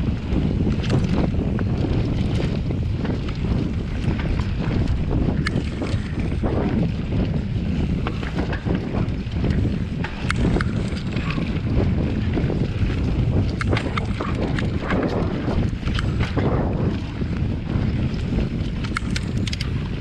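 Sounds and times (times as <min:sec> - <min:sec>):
bike clattering over bumps: 0:00.0 - 0:20.0
bike tyres rumbling on dirt: 0:00.0 - 0:20.0
wind rushing over microphone: 0:00.0 - 0:20.0.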